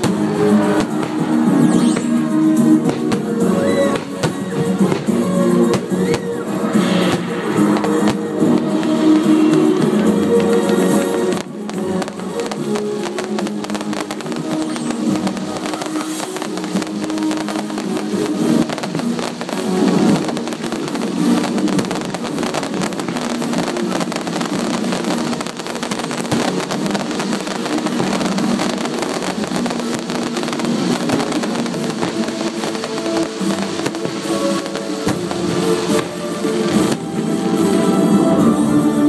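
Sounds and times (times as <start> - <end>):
fireworks crackling and popping: 0.0 - 39.0
music with sustained tones: 0.0 - 39.0.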